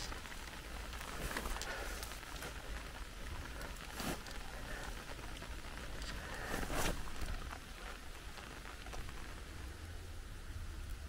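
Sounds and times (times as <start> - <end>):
swishing in wet grass: 0.0 - 9.4
steady soft hiss: 0.0 - 11.0.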